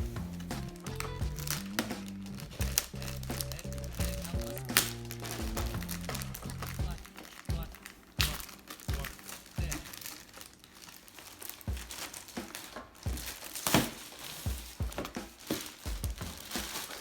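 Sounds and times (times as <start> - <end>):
packaging crinkling and rustling: 0.1 - 17.0.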